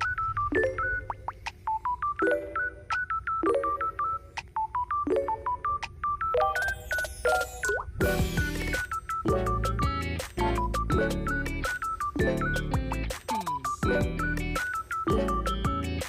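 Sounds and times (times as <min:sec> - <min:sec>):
beeping melody: 0:00.0 - 0:16.0.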